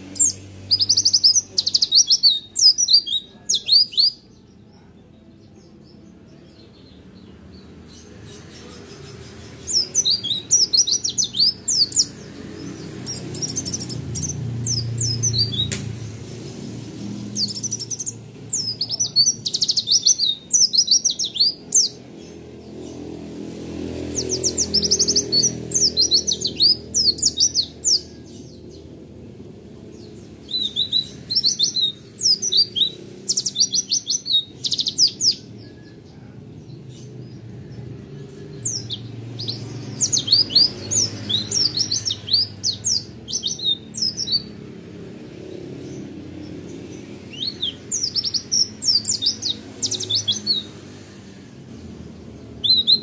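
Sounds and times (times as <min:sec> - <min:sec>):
bird singing fast high chirps: 0:00.0 - 0:04.5, 0:06.4 - 0:15.9, 0:16.6 - 0:23.0, 0:23.8 - 0:28.9, 0:30.0 - 0:35.7, 0:38.5 - 0:44.7, 0:45.7 - 0:51.1, 0:52.3 - 0:53.0.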